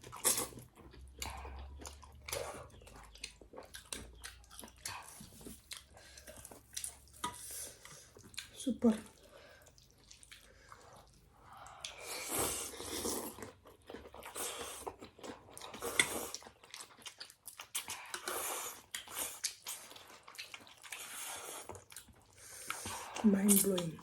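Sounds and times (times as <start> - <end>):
chewing and crunching noodle soup: 0.0 - 24.0.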